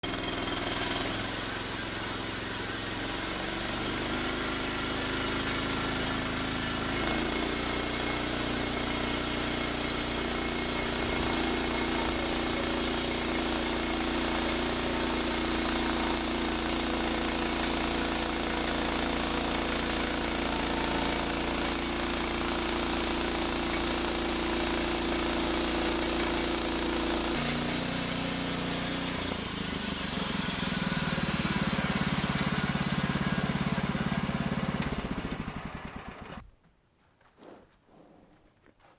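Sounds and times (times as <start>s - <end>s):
bandsaw sawmill engine running: 0.0s - 36.4s.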